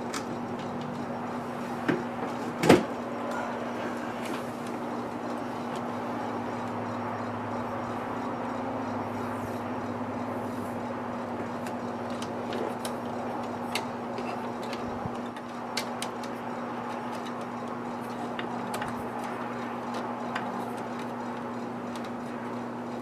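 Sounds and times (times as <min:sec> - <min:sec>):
electrical hum: 0:00.0 - 0:23.0
electrical tape clicks and crackles: 0:00.0 - 0:23.0.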